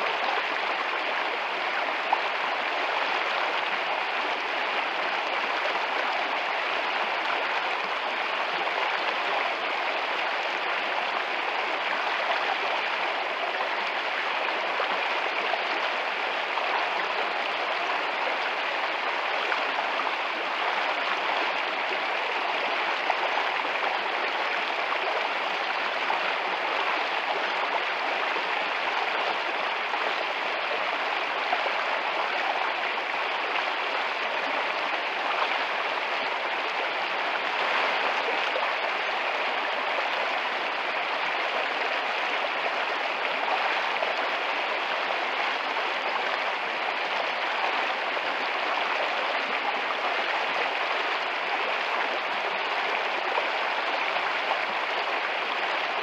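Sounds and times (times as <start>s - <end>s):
brook babbling: 0.0s - 56.0s.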